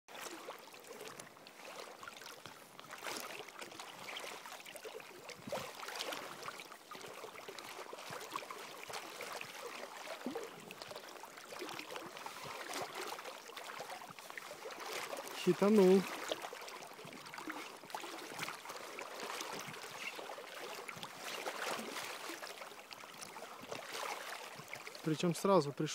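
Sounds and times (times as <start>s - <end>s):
river water lapping and trickling: 0.1s - 25.9s.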